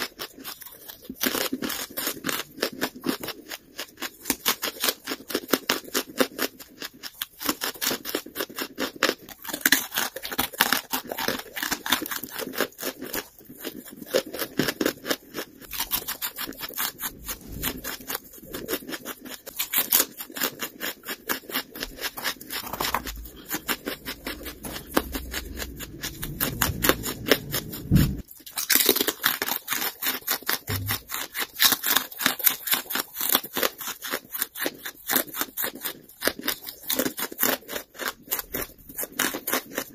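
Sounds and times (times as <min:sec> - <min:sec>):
charcoal crunching being chewed: 0:00.0 - 0:39.9.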